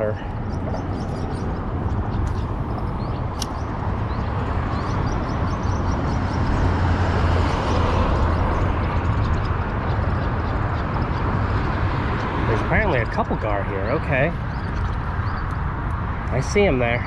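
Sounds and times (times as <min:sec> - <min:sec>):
highway traffic rumble: 0:00.0 - 0:17.0
vehicle passing: 0:00.0 - 0:17.0.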